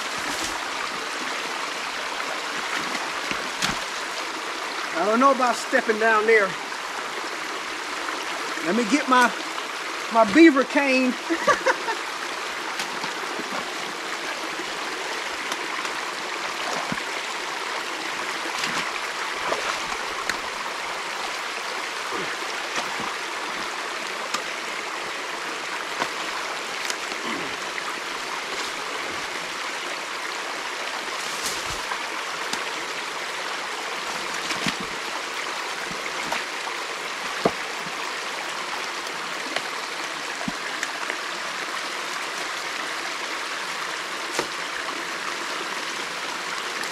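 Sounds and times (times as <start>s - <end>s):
creek water running: 0.0s - 46.9s.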